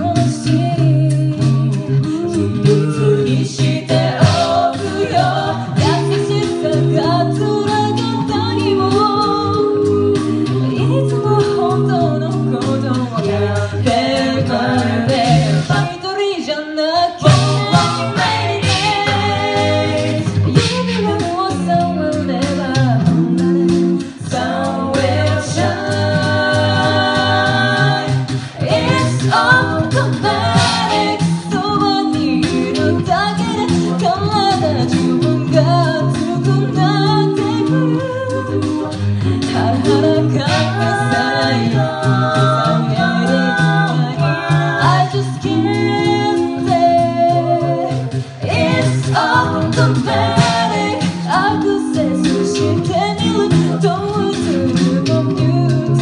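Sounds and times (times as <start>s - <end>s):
a cappella group singing: 0.0s - 56.0s.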